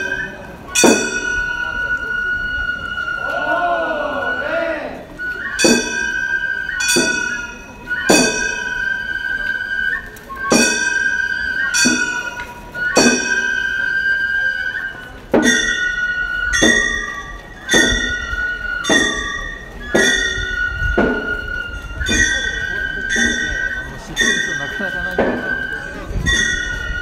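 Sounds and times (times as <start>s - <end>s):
bamboo flute melody: 0.0s - 27.0s.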